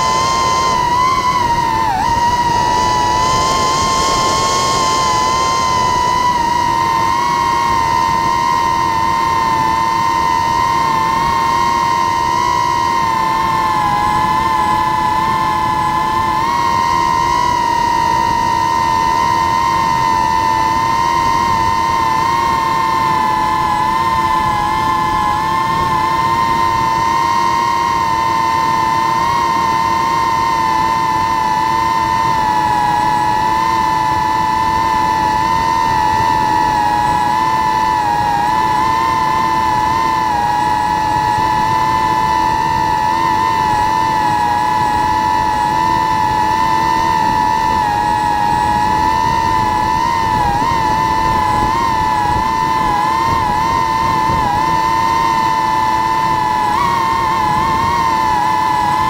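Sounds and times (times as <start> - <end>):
drone propellers whining: 0.0 - 59.0.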